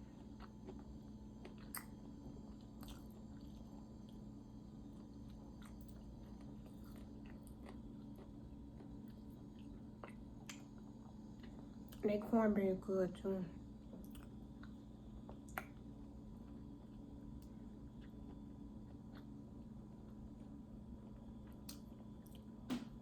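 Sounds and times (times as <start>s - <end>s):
chewing food: 0.0s - 12.1s, 13.8s - 22.6s.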